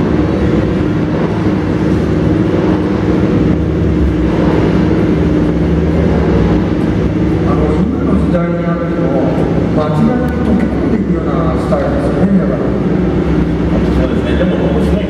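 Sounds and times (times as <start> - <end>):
car and motorcycle engines droning: 0.0 - 15.0.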